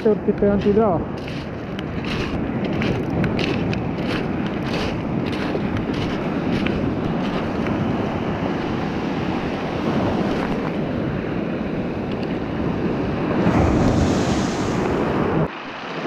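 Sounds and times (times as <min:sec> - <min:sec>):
wind buffeting microphone: 0:00.0 - 0:15.6
surf on pebble beach: 0:00.0 - 0:16.0.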